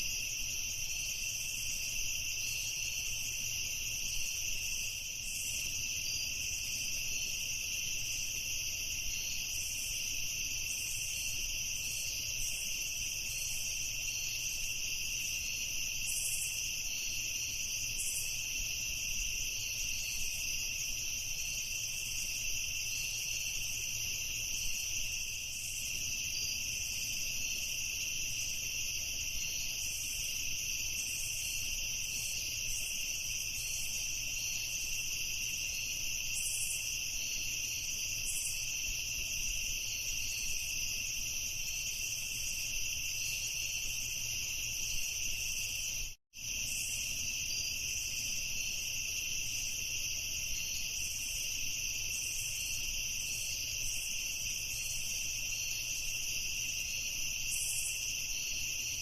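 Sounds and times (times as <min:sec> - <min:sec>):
crickets trilling: 0:00.0 - 0:59.0
high pulsing insect chirp: 0:00.0 - 0:59.0.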